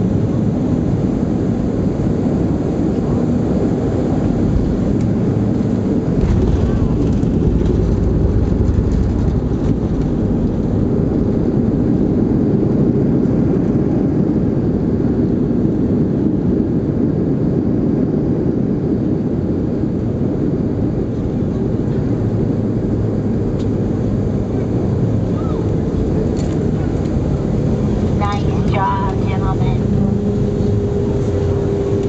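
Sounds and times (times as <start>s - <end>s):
jet cabin rumble: 0.0s - 32.0s.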